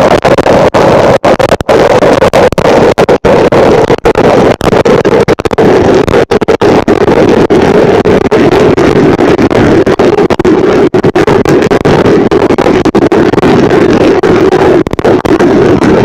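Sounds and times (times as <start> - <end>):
distorted digital glitch buzzing: 0.0 - 16.0.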